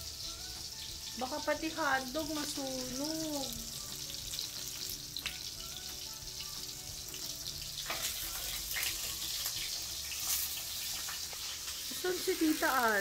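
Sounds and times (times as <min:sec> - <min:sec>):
hotdogs sizzling in oil: 0:00.0 - 0:13.0.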